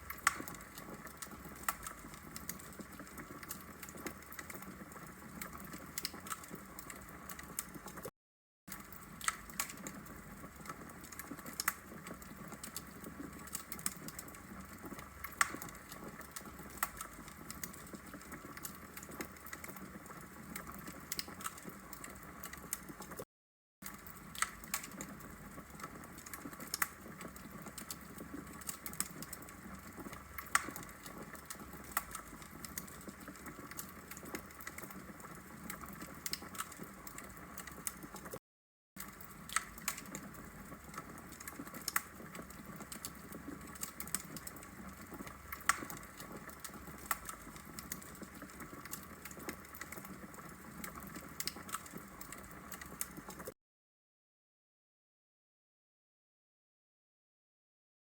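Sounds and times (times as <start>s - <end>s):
logs crackling and popping in fire: 0.0s - 8.1s, 8.7s - 23.2s, 23.8s - 38.4s, 39.0s - 53.5s.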